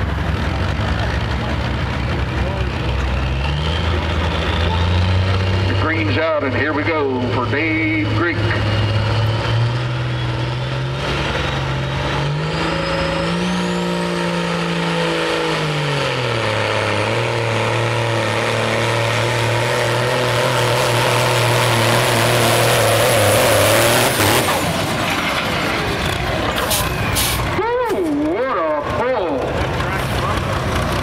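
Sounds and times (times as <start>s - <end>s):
diesel truck engine revving: 0.0s - 31.0s
high engine whine: 0.0s - 31.0s.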